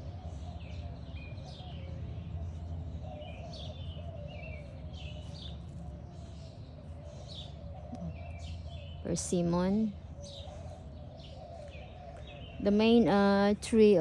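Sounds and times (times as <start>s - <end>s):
low background rumble: 0.0s - 14.0s
songbirds chirping: 0.0s - 14.0s.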